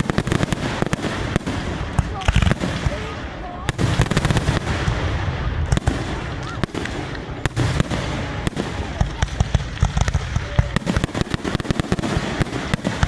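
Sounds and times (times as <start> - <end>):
fireworks booming: 0.0 - 13.0
fireworks crackling: 0.0 - 13.0.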